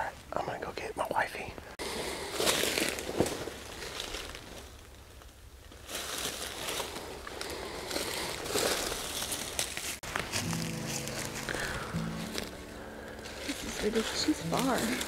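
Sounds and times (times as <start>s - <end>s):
rustling and crunching handling noise: 2.3s - 15.0s.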